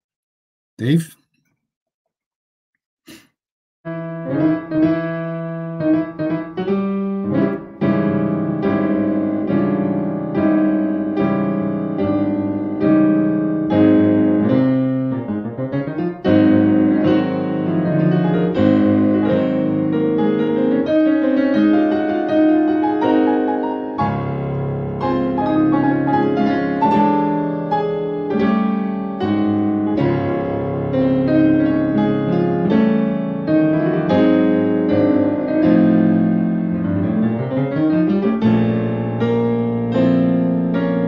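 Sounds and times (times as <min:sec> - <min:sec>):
solo piano music: 0:03.9 - 0:41.0.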